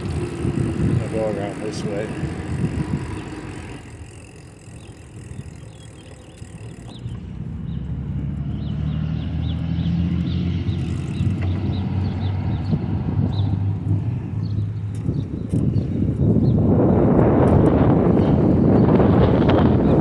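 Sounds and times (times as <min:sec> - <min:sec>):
bicycle tyre noise: 0:00.0 - 0:20.0
wind rumbling on microphone: 0:00.0 - 0:20.0.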